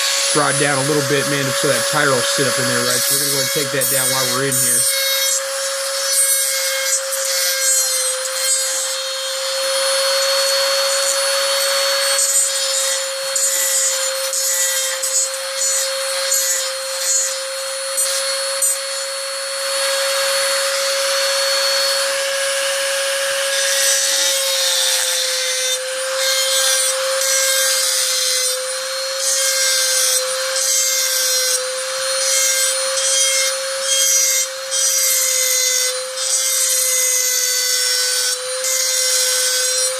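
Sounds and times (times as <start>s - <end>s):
rotary tool whining and grinding: 0.0s - 39.9s.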